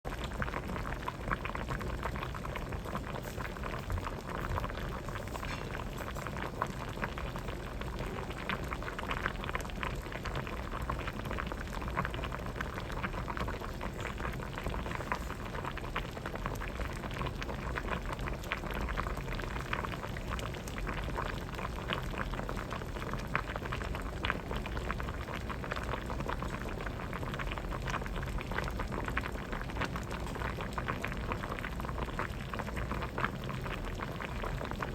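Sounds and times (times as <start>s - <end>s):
soup boiling with popping bubbles: 0.0s - 34.9s.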